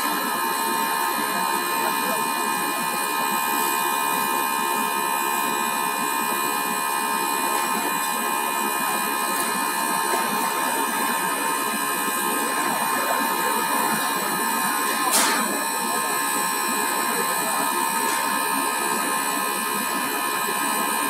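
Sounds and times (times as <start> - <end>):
pump drive whirring: 0.0 - 21.0.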